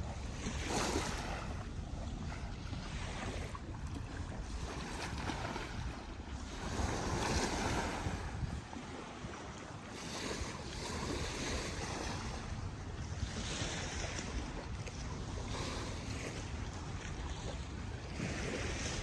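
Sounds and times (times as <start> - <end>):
river waves washing on shore: 0.0 - 19.0
wind buffeting microphone: 0.0 - 19.0.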